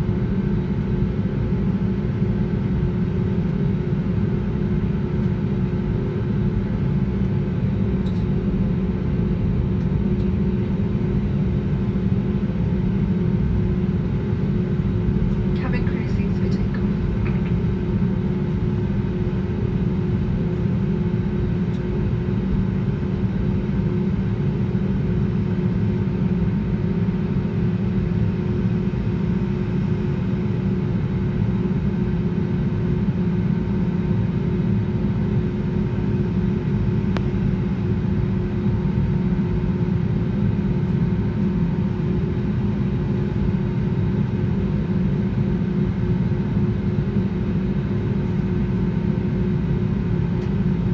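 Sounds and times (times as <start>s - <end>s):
aircraft engine hum: 0.0s - 50.9s.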